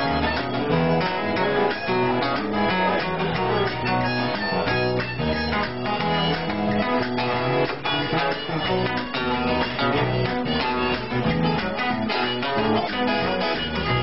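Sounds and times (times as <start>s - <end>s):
strummed acoustic guitars: 0.0s - 14.0s.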